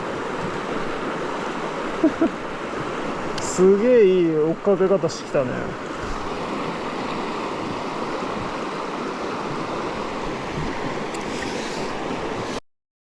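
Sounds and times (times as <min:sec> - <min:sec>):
stream water rushing: 0:00.0 - 0:12.6.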